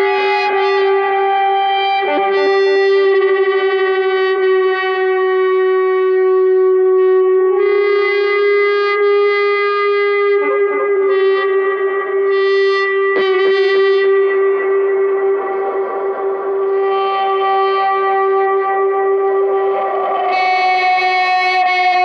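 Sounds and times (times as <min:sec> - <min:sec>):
distorted electric violin note: 0:00.0 - 0:22.0.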